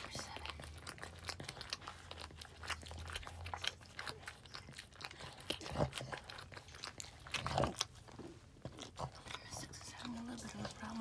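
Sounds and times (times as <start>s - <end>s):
dog licking and chewing: 0.0s - 11.0s.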